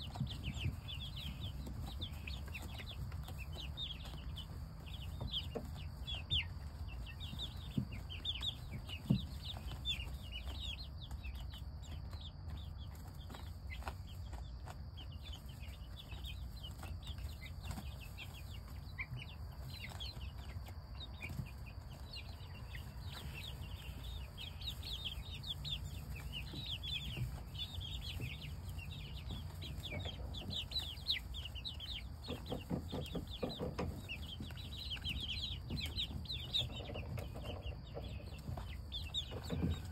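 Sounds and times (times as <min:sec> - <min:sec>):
chicks peeping and cheeping: 0:00.0 - 0:39.9
pecking clicks and rustles in hay: 0:00.0 - 0:39.9.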